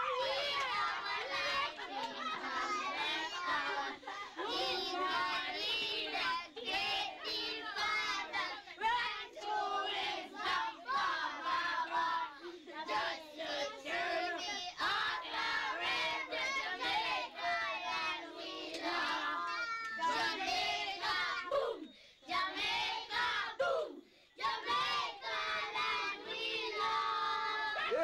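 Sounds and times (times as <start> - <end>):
children singing together: 0.0 - 28.0.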